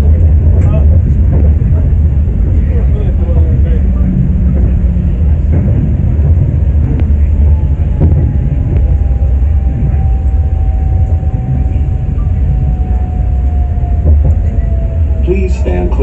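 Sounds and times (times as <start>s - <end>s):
train rumbling on guideway: 0.0s - 16.0s.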